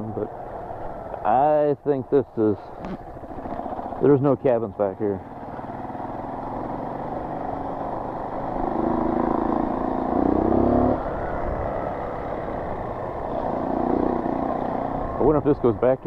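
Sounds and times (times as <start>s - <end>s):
dirt bike engine revving: 2.3s - 16.0s.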